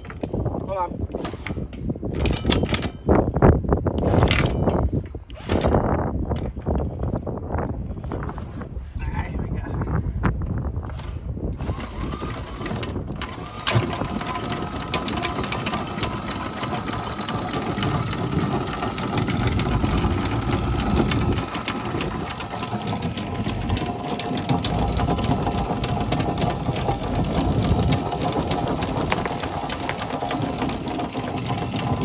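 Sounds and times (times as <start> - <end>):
anchor chain rattling: 0.0 - 6.0, 11.0 - 32.0
windlass motor whine: 0.0 - 8.8, 10.0 - 32.0.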